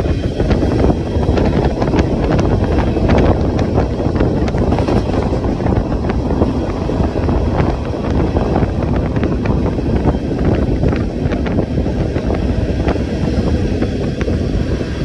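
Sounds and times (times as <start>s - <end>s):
train wheels rumbling on rails: 0.0s - 15.0s
wind buffeting microphone: 0.0s - 15.0s.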